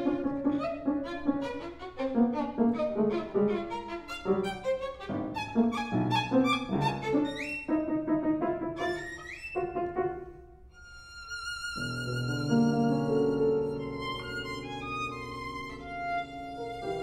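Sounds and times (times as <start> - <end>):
violin playing: 0.0 - 17.0.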